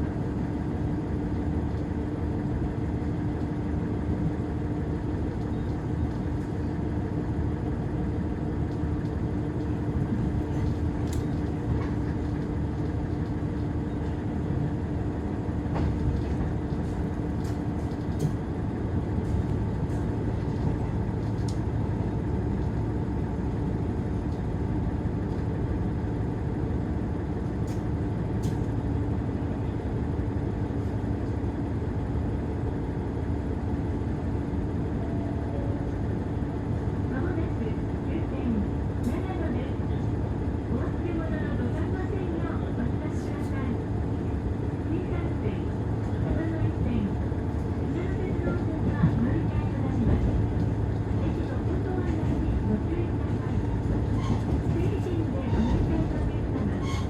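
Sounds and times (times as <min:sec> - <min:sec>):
railcar engine running: 0:00.0 - 0:57.0.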